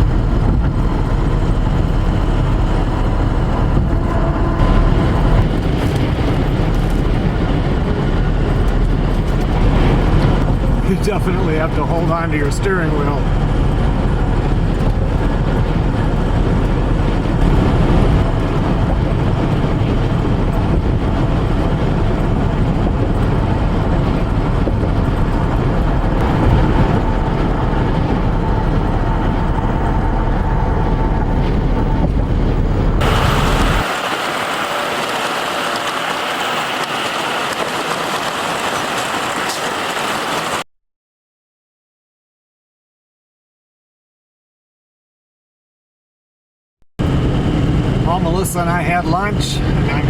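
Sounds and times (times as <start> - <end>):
road noise inside truck cab: 0.0 - 40.6, 47.0 - 50.0.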